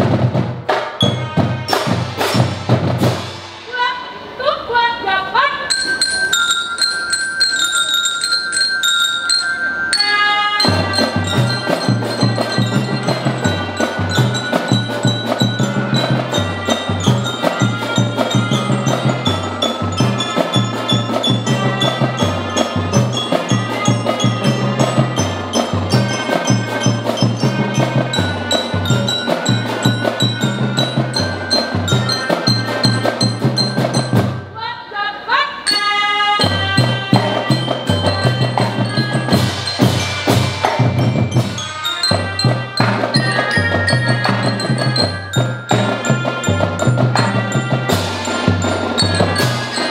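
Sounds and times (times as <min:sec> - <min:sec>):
melodica marching band playing: 0:00.0 - 0:34.7, 0:35.6 - 0:49.9.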